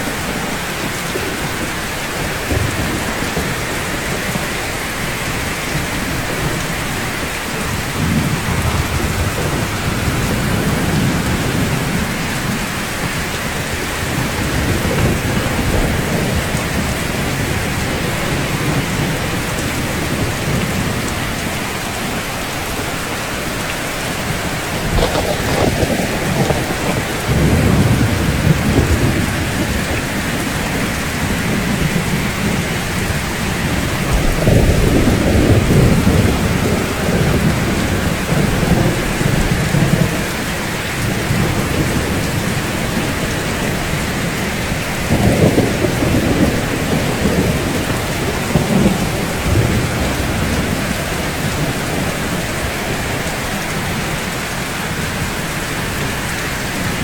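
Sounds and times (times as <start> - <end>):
rain falling on rooftops: 0.0 - 57.0
thunder rumbling: 0.0 - 57.0.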